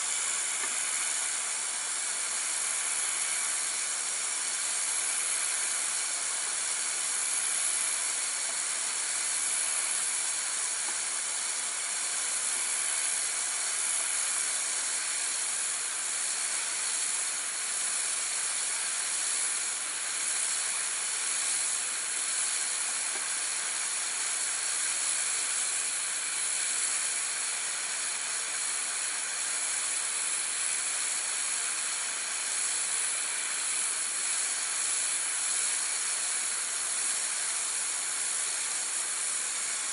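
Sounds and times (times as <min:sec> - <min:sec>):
pressure washer spraying wall: 0:00.0 - 0:39.9.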